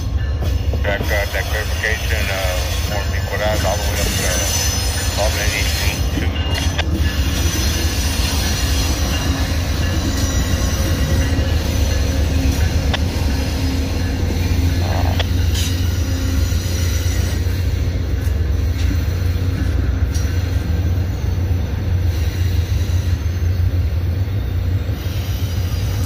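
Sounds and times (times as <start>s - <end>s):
diesel locomotive rumble: 0.0s - 26.0s
train rolling past: 0.0s - 26.0s.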